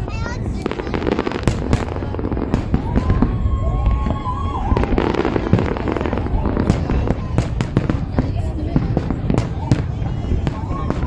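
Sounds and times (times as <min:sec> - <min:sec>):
fireworks crackling and popping: 0:00.0 - 0:11.0
low rumble of booms: 0:00.0 - 0:11.0.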